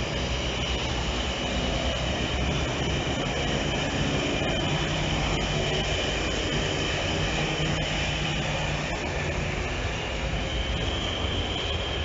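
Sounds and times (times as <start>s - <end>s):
diesel engine low drone: 0.0s - 12.0s
high whine: 0.0s - 12.0s.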